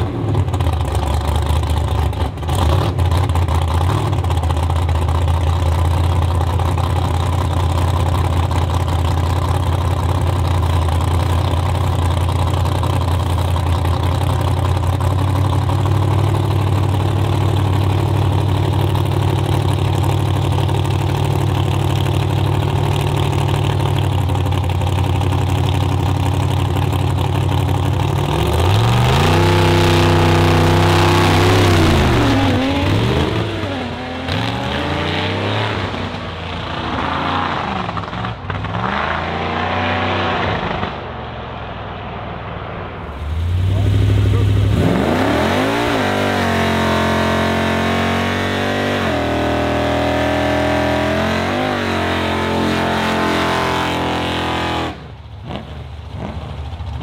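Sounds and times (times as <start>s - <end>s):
car engines idling: 0.0s - 38.7s, 41.0s - 57.0s
car engines revving: 0.0s - 57.0s.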